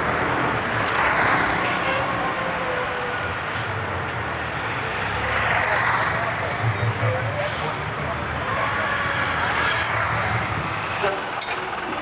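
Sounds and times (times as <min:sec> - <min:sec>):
road vehicle noise: 0:00.0 - 0:12.0.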